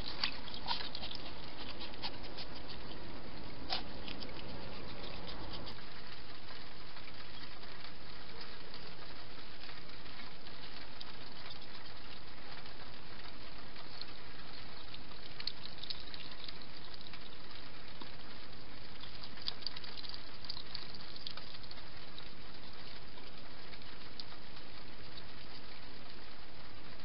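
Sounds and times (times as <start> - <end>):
hedgehog chewing food: 0.0 - 26.3
steady hiss: 0.0 - 27.0.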